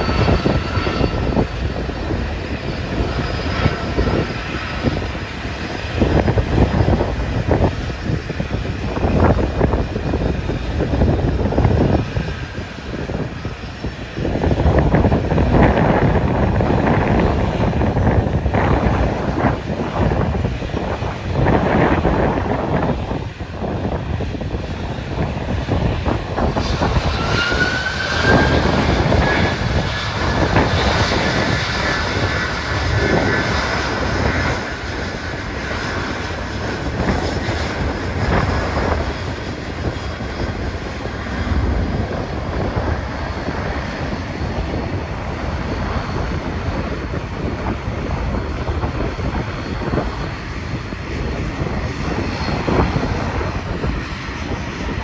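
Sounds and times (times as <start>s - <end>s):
jet engines whining: 0.0s - 55.0s
wind buffeting microphone: 0.0s - 55.0s.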